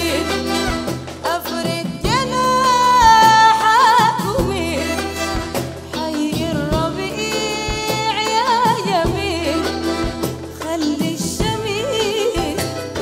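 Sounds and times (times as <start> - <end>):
band accompaniment: 0.0 - 13.0
woman singing: 0.0 - 13.0.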